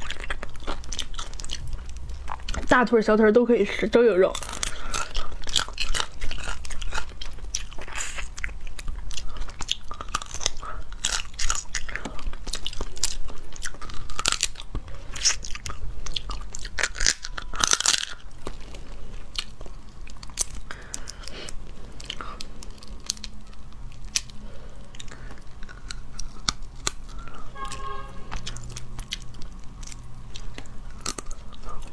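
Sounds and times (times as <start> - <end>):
crayfish shells cracking: 0.0 - 2.8, 4.3 - 31.9
chewing and mouth sounds: 0.0 - 2.9, 3.7 - 31.9.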